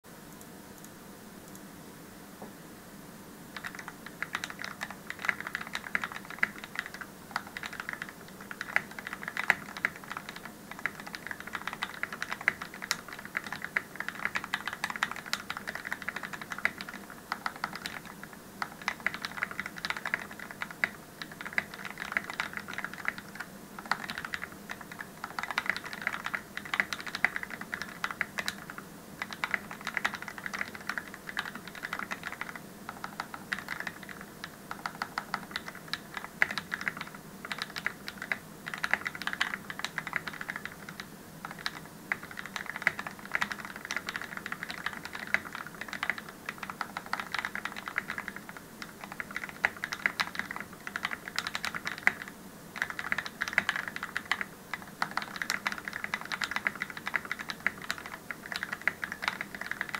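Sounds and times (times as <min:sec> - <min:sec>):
mechanical keyboard typing: 0:03.6 - 0:59.9.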